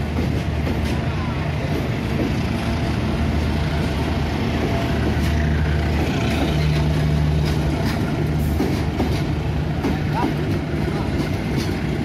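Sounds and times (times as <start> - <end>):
train wheels rumbling: 0.0 - 12.0
wheels clacking over rail joints: 0.0 - 12.0.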